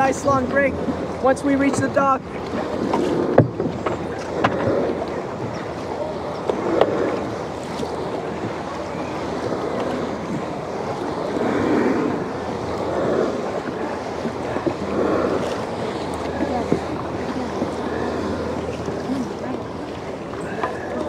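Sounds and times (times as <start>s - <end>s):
paddles splashing through water: 0.0s - 21.0s.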